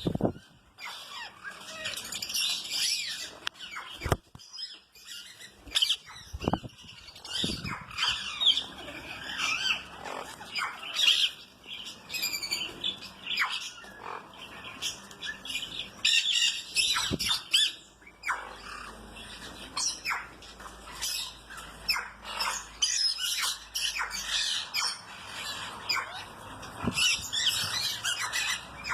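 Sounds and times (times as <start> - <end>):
birds chirping and squawking: 0.0 - 28.9.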